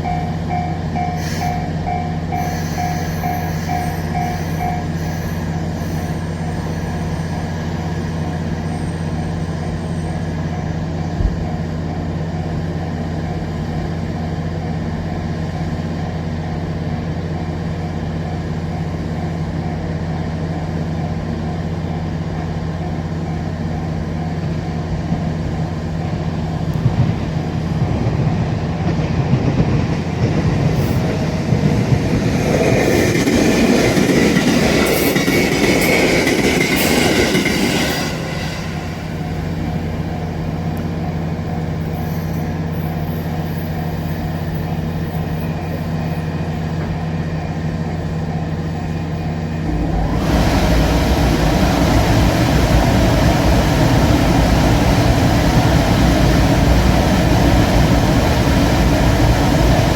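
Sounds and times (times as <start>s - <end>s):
train low rumble: 0.0s - 59.9s
train wheels on rails: 0.0s - 59.9s.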